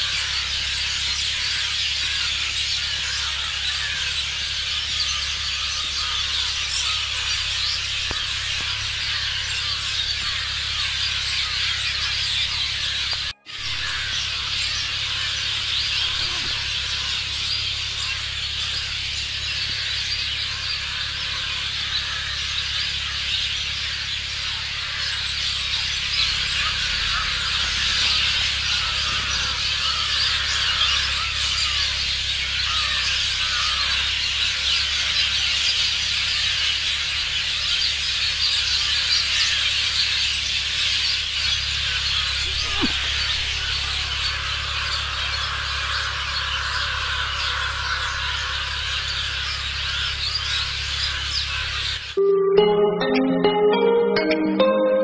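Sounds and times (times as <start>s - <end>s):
lower bird call: 0.0s - 52.2s
many birds chirping and calling: 0.0s - 55.0s.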